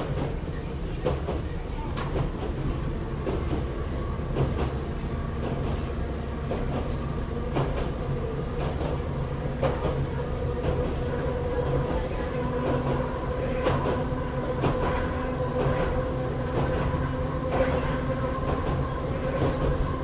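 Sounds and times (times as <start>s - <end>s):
railcar low rumble: 0.0s - 20.0s.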